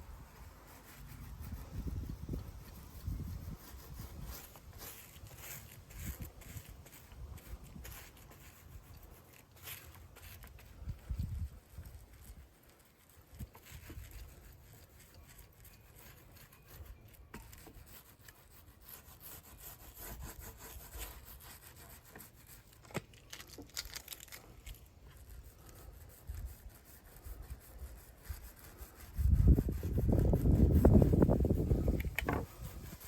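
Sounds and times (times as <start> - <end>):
brush rubbing on cloth: 0.0 - 33.0.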